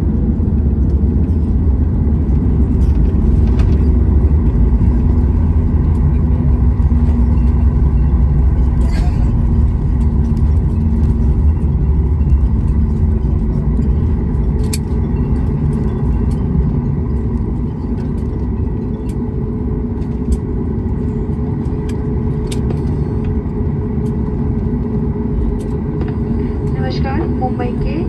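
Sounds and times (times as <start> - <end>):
airplane engines and wheels rumbling: 0.0 - 28.0.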